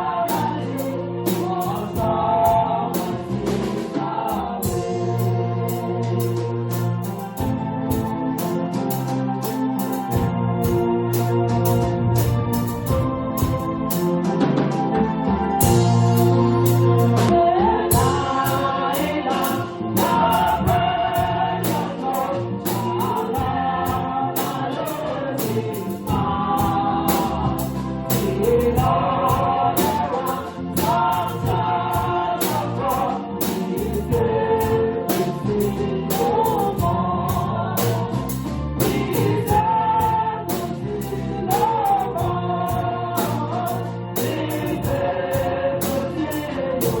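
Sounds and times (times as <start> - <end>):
steady beat: 0.0 - 14.6, 15.6 - 47.0
choir singing a gospel hymn: 0.0 - 47.0.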